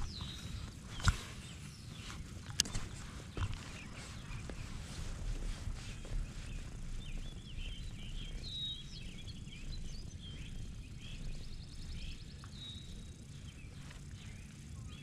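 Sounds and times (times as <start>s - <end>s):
low outdoor rumble: 0.0s - 15.0s
songbird warbling and chirping: 0.0s - 15.0s.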